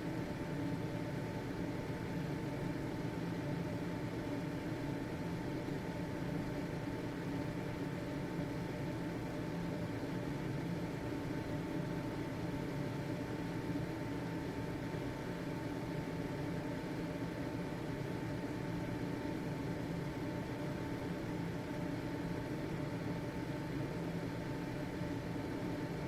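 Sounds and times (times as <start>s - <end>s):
ventilation fan running: 0.0s - 26.0s.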